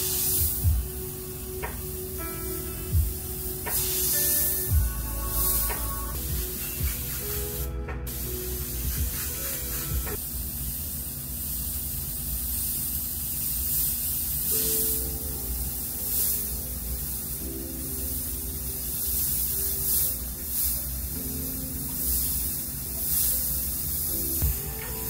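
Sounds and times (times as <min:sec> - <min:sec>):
airbrush air hiss: 0:00.0 - 0:25.0.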